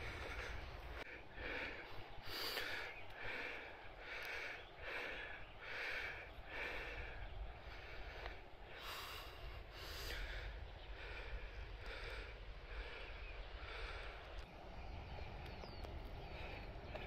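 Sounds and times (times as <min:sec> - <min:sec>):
person breathing hard: 0:00.0 - 0:14.5.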